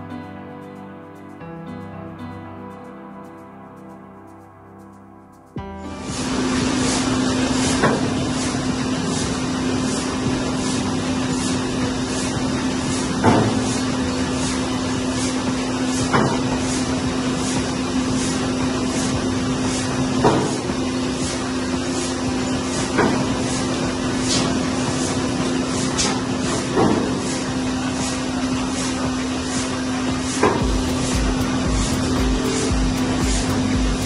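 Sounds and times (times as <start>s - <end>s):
machine motor hum: 5.7s - 34.0s.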